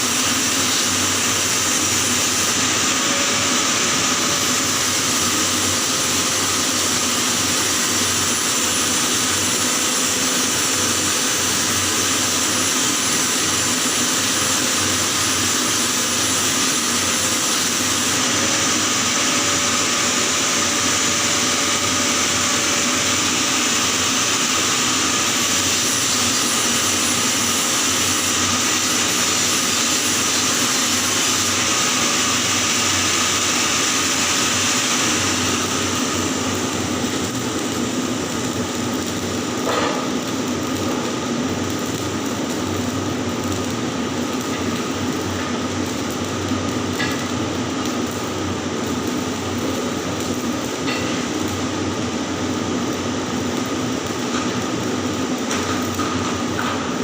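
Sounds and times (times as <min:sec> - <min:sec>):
arc welding hiss: 0:00.0 - 0:57.0.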